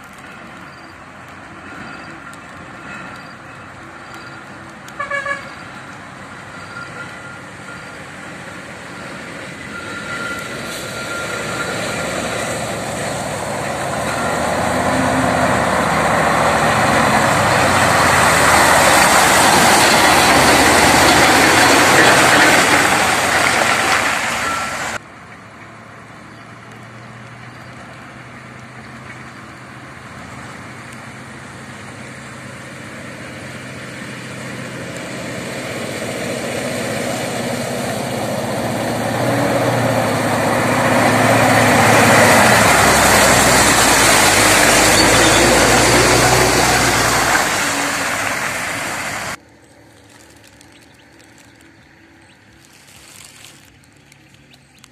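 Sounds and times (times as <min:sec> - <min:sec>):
diesel truck engines straining: 0:00.0 - 0:52.6.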